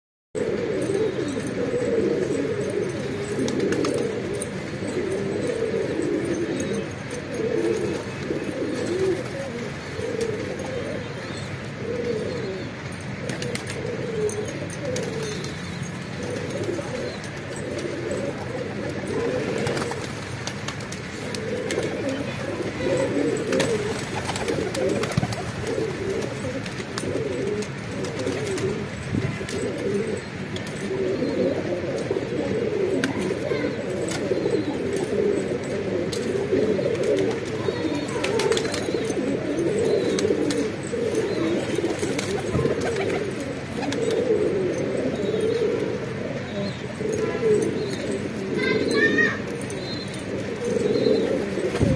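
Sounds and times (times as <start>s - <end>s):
pigeons cooing: 0.4s - 51.9s.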